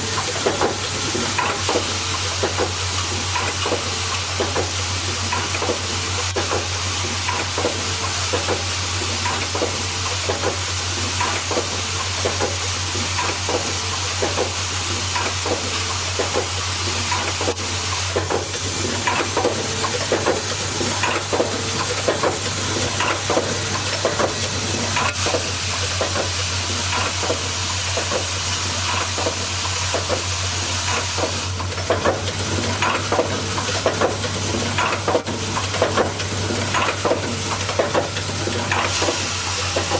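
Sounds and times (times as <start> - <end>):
machine humming and hissing: 0.0 - 39.9.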